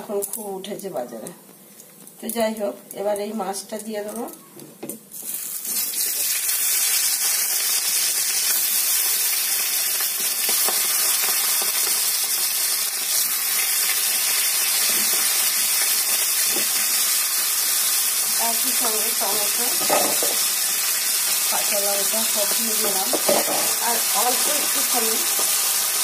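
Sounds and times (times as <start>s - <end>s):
fish sizzling in hot oil: 5.1s - 26.0s.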